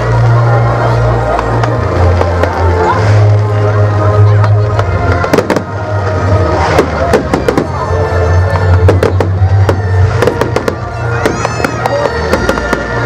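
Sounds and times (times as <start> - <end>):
fireworks cracking and banging: 0.0 - 13.0
music with heavy bass: 0.0 - 13.0.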